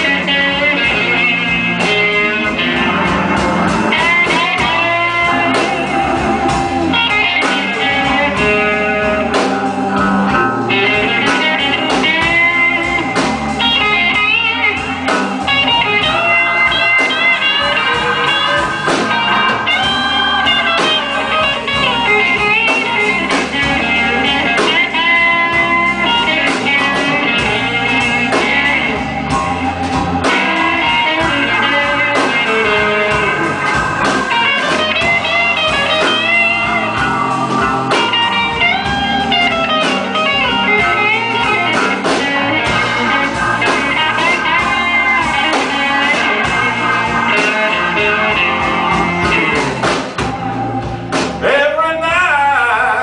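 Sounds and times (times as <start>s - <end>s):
steady bass line: 0.0s - 52.6s
blues band playing: 0.0s - 53.0s
guitar lead with bent notes: 0.0s - 53.0s.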